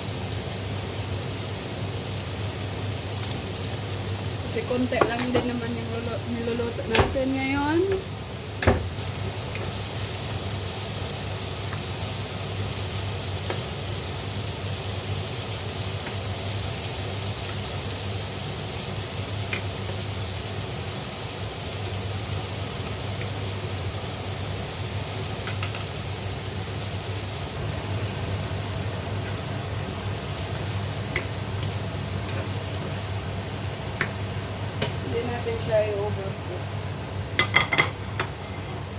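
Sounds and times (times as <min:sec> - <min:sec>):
shrimp sizzling in a pan: 0:00.0 - 0:38.9.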